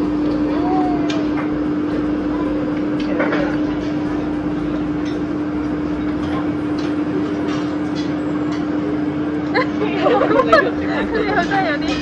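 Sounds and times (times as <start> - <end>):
ice cream machine humming: 0.0 - 12.0.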